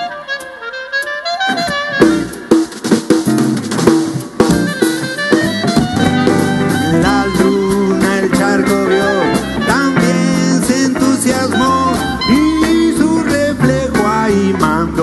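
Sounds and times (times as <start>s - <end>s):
bending lead guitar notes: 0.0s - 15.0s
live band playing: 0.0s - 15.0s.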